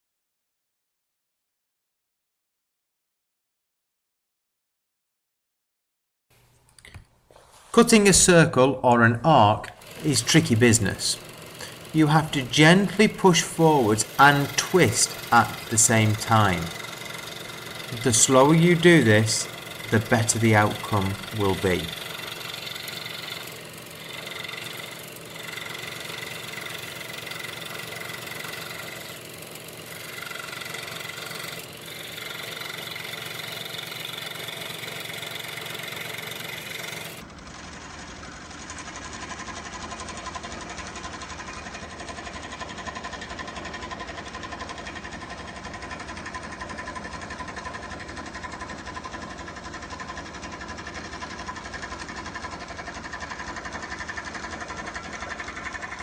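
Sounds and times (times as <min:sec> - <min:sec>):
scroll saw cutting: 0:09.4 - 0:56.0.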